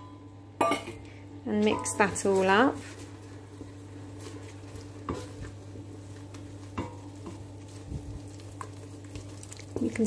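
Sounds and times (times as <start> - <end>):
wooden spoon stirring in saucepan: 1.7 - 10.0.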